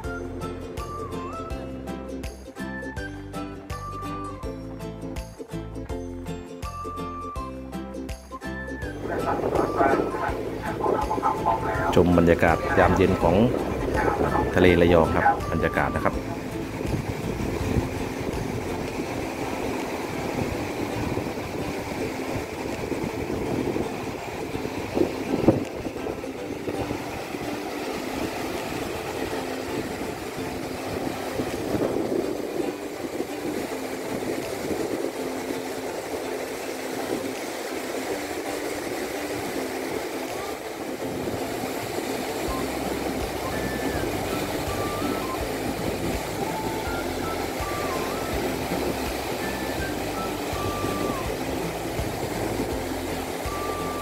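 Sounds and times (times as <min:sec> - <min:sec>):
soft background music: 0:00.0 - 0:54.0
waves washing onto sandy beach: 0:08.8 - 0:54.0.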